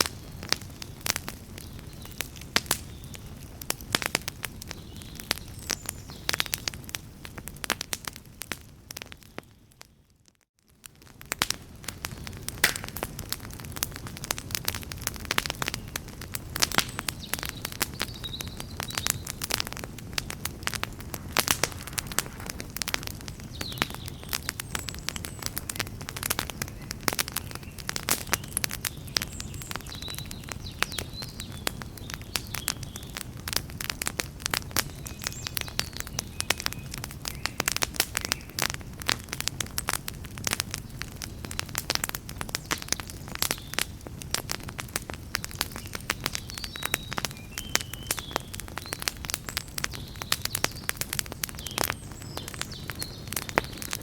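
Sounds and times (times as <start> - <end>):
low rumble of flames: 0.0 - 54.0
wood crackling and popping: 0.0 - 54.0.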